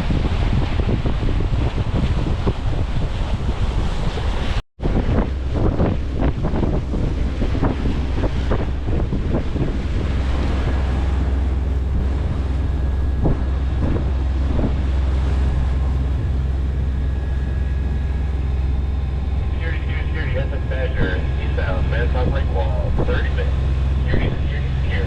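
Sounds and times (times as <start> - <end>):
low rumble: 0.0 - 25.0
waves splashing on hull: 0.0 - 25.0
wind buffeting microphone: 0.0 - 25.0.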